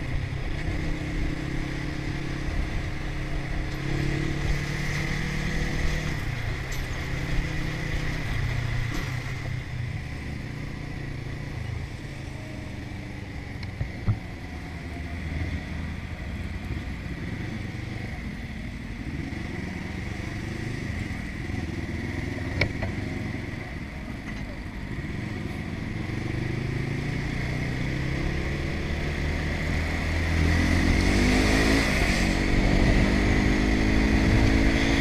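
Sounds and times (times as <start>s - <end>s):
road and wind noise: 0.0s - 35.0s.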